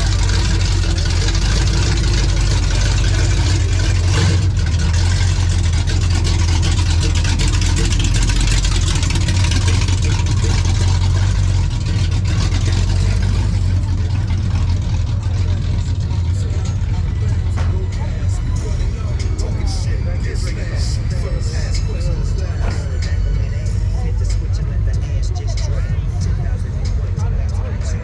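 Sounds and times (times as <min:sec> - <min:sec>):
car engine idling: 0:00.0 - 0:28.0
slow-moving traffic: 0:00.0 - 0:28.0.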